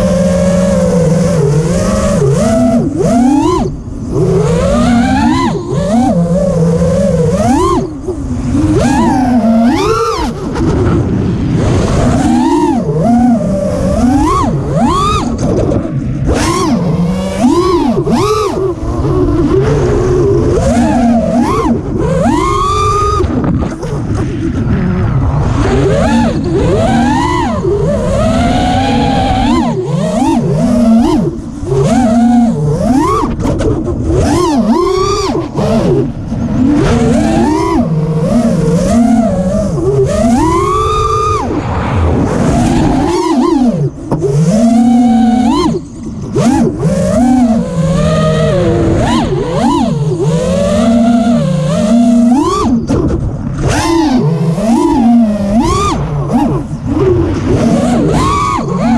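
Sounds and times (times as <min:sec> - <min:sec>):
drone motors whining: 0:00.0 - 0:58.9
wind rumble on microphone: 0:00.0 - 0:58.9.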